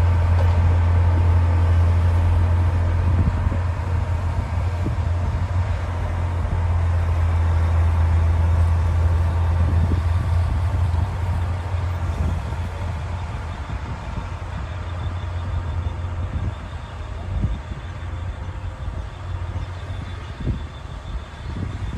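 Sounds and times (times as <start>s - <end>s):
bulldozer diesel engine running: 0.0s - 21.9s.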